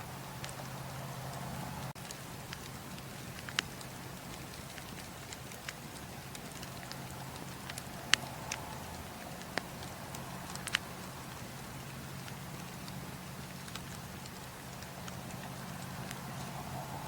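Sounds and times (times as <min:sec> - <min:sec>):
burning wood popping: 0:00.0 - 0:17.0
campfire crackling: 0:00.0 - 0:17.0
low fire rumble and hiss: 0:00.0 - 0:17.0.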